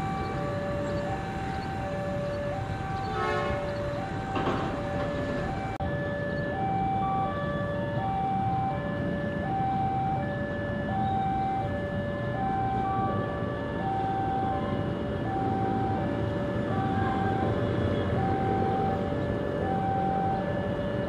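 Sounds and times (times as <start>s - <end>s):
low rumble of traffic: 0.0s - 21.0s
two-tone electronic warning alarm: 0.0s - 21.0s.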